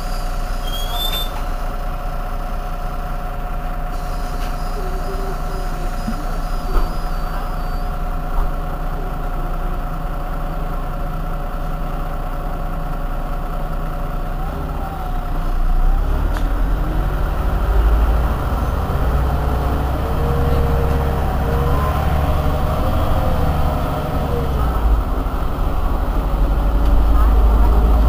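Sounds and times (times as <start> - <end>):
bus engine idling: 0.0 - 28.0.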